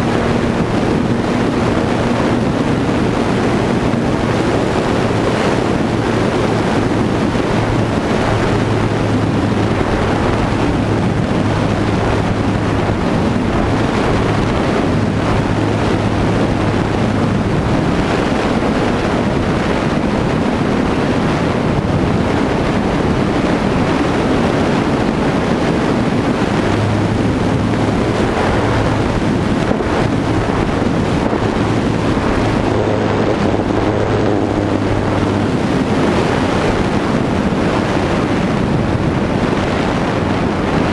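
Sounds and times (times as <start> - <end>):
motor and propeller hum: 0.0 - 40.9
wind rushing over microphone: 0.0 - 40.9.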